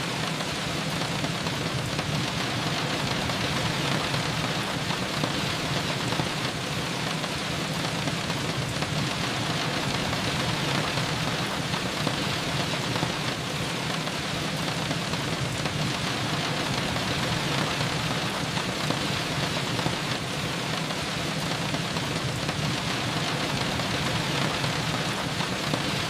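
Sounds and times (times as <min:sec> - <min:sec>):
steady rain pattering: 0:00.0 - 0:26.0.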